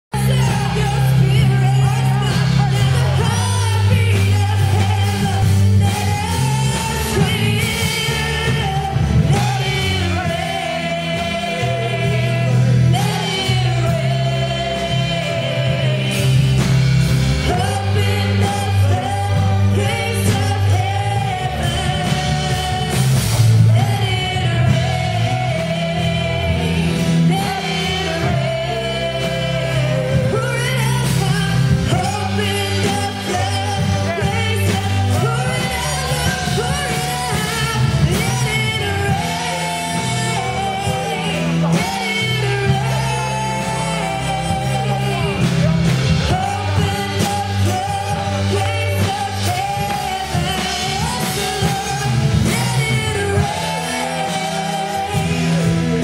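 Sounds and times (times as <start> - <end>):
electric bass: 0.0 - 56.0
keyboard: 0.0 - 56.0
drum kit with cymbals: 0.1 - 56.0
woman singing: 0.2 - 56.0.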